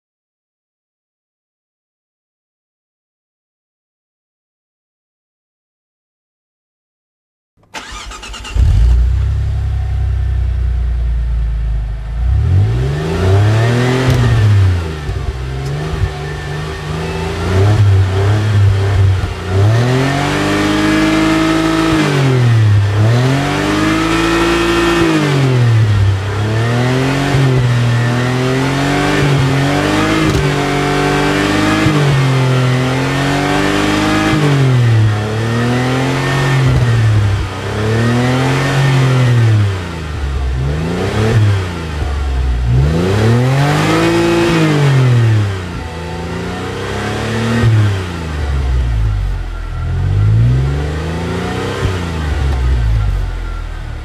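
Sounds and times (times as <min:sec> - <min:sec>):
car engine idling and revving: 0:07.6 - 0:54.0.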